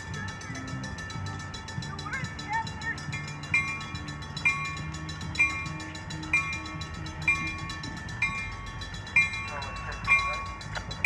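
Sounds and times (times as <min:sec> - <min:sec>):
railroad crossing bell ringing: 0:00.0 - 0:11.0.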